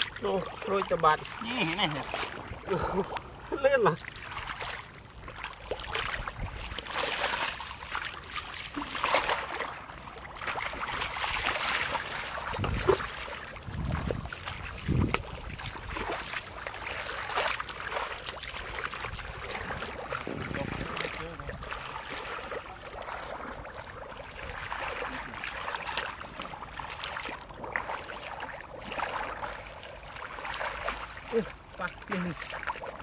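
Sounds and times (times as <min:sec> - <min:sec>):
splashing in muddy water: 0:00.0 - 0:33.0.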